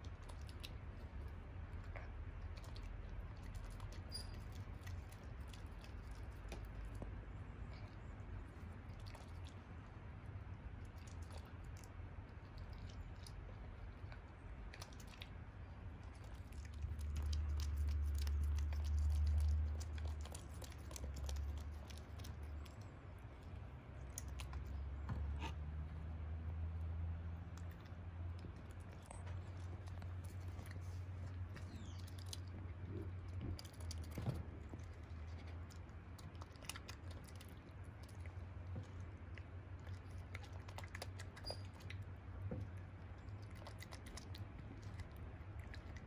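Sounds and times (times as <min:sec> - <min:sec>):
animal chewing melon: 0:00.0 - 0:46.0
low steady hum: 0:00.0 - 0:46.0.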